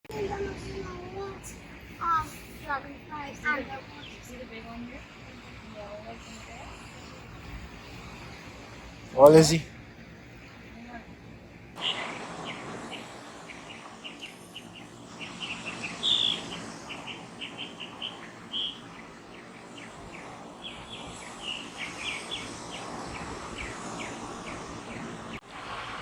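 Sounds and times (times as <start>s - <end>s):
birds chirping: 0.1s - 25.4s
background hiss: 0.1s - 26.0s.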